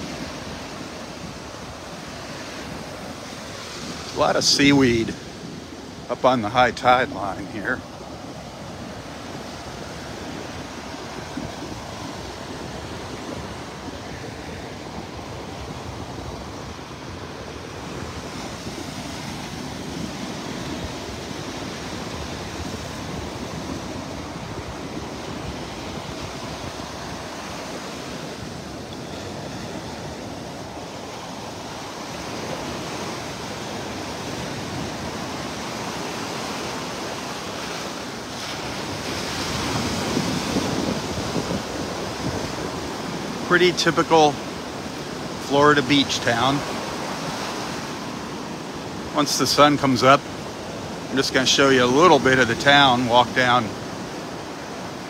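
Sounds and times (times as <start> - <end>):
small waves breaking on sand: 0.0 - 55.0.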